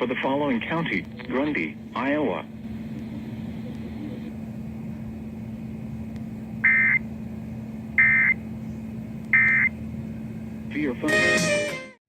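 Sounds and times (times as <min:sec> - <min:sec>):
low hum and hiss: 0:00.0 - 0:11.8.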